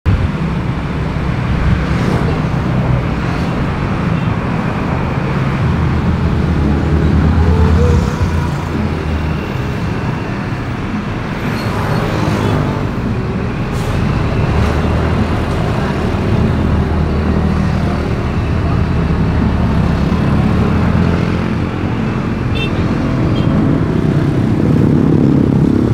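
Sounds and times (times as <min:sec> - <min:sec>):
bus engine running: 0:00.1 - 0:25.9
motorcycle engines: 0:00.1 - 0:25.9
tyre and road noise: 0:00.1 - 0:25.9.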